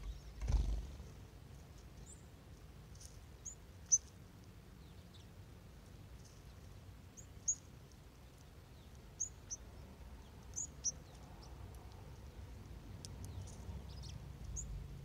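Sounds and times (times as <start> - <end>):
faint low background hum: 0.0 - 15.0.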